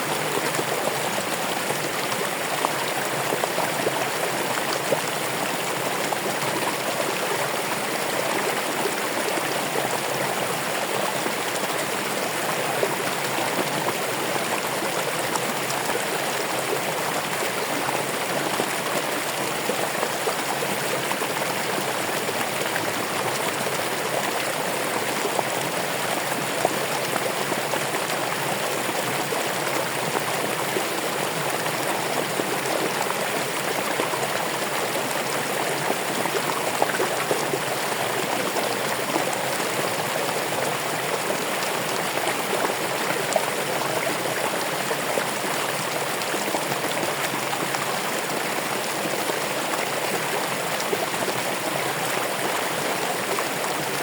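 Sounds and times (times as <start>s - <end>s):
water flowing over rocks: 0.0s - 54.0s.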